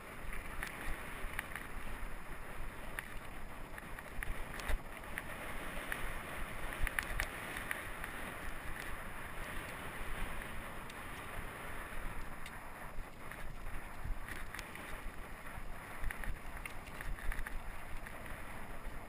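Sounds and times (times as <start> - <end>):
wind noise on microphone: 0.0 - 19.0
bike rattling clicks: 0.2 - 19.0.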